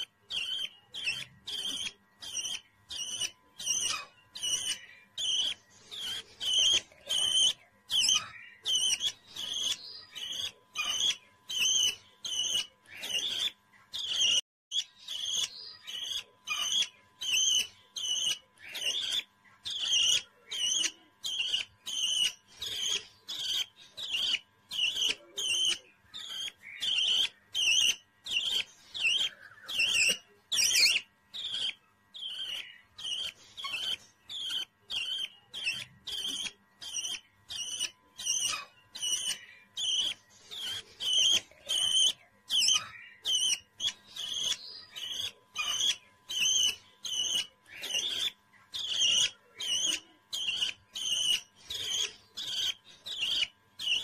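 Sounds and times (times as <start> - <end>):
baby budgerigar chirping: 0.0 - 54.0.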